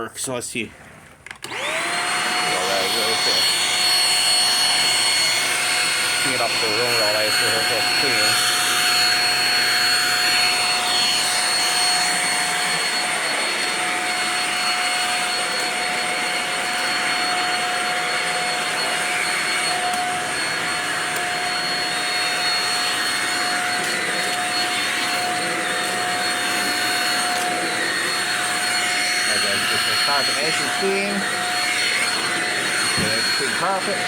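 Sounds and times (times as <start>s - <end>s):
vacuum cleaner running: 0.7s - 34.0s.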